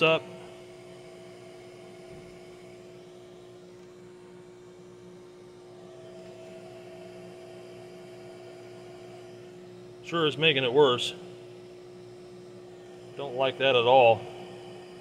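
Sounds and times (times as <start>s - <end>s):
heat gun fan hum and hiss: 0.0s - 15.0s.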